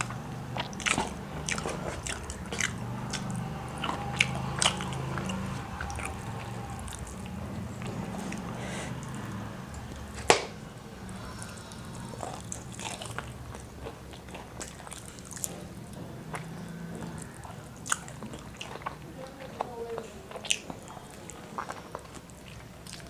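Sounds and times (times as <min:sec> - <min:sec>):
loud crunching bite: 0:00.0 - 0:19.0
chewing crispy fried chicken: 0:00.0 - 0:23.0.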